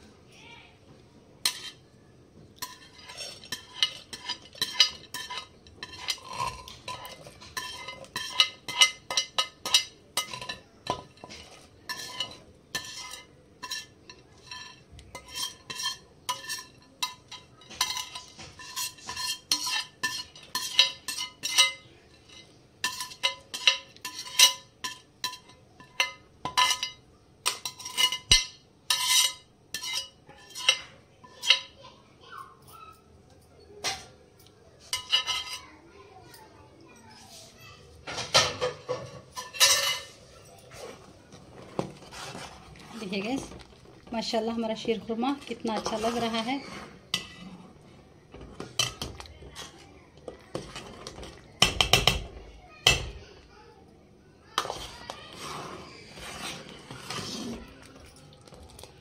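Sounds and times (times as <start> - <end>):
spoon stirring in a pot: 1.0 - 53.6, 54.4 - 59.0.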